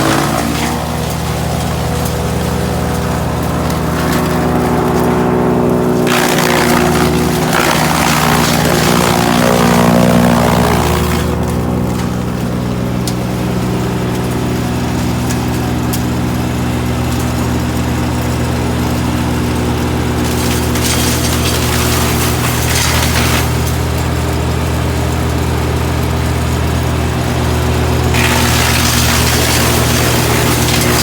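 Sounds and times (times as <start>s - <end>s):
rougher noisier grinding sound: 0.0s - 31.0s
wood chipper engine running: 0.0s - 31.0s.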